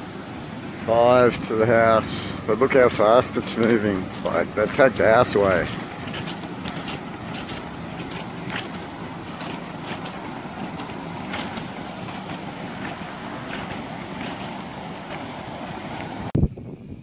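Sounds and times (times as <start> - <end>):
floodwater rushing: 0.0 - 16.3.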